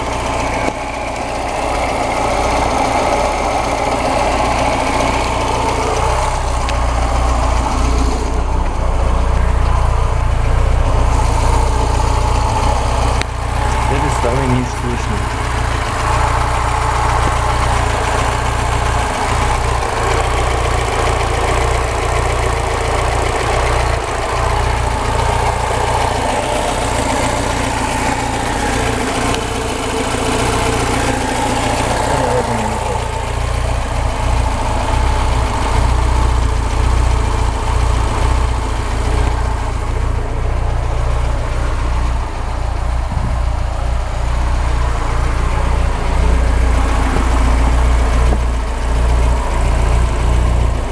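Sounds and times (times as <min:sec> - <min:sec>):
car engine idling: 0:00.0 - 0:50.9
engine knocking: 0:00.0 - 0:50.9.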